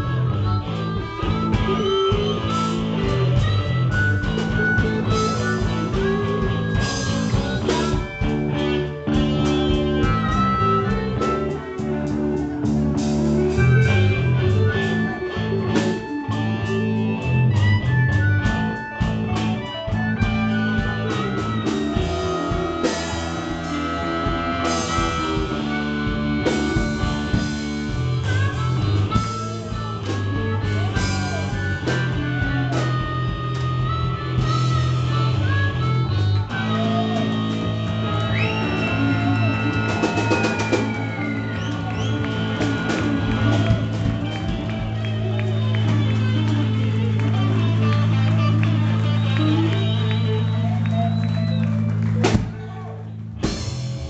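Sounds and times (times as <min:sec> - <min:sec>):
harmonica: 0:00.0 - 0:52.2
bass guitar: 0:00.0 - 0:54.0
electric guitars: 0:00.0 - 0:54.0.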